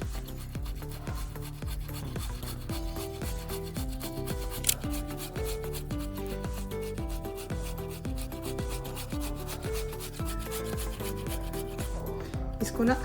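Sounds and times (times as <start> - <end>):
potatoes rasping on a grater: 0.0 - 12.2
background music: 0.0 - 13.0.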